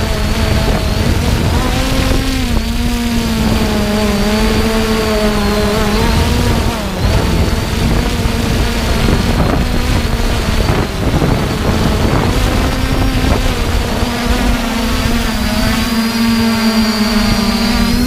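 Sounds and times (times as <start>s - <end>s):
drone propellers buzzing: 0.0s - 18.0s
wind rumbling on microphone: 0.0s - 18.0s.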